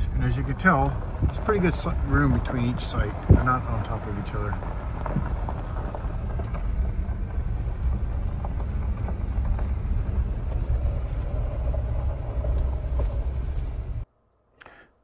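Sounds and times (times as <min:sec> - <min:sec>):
gravel crunching: 0:00.0 - 0:14.0
truck engine and tyres rumbling: 0:00.0 - 0:14.1.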